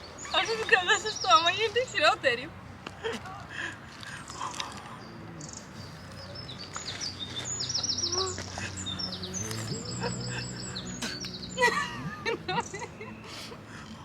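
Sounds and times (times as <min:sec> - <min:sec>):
songbird singing: 0:00.0 - 0:02.3, 0:04.1 - 0:14.0.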